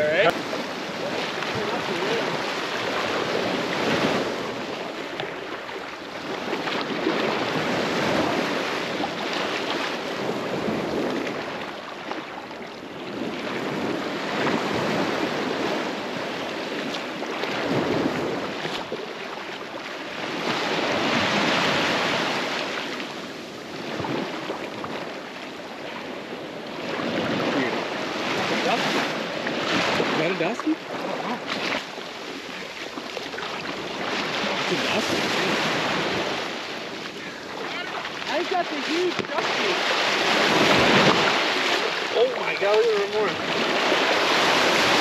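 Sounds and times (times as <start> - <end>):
waves breaking on a beach: 0.0 - 45.0
wind on the microphone: 0.0 - 45.0.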